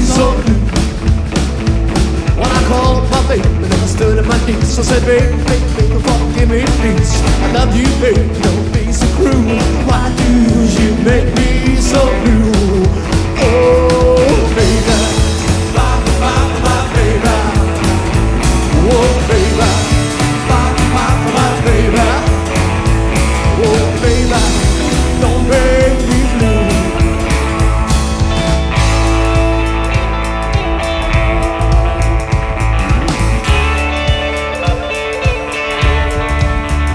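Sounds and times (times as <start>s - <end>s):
bass line: 0.0s - 36.9s
drum beat: 0.0s - 36.9s
sliding bending guitar lead: 0.0s - 36.9s.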